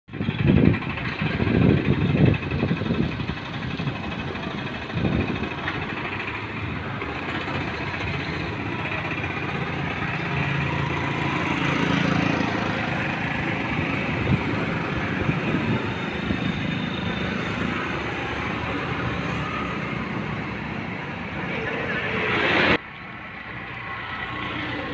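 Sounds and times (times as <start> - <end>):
street traffic: 0.1 - 24.9
motor scooter passing: 0.5 - 24.9.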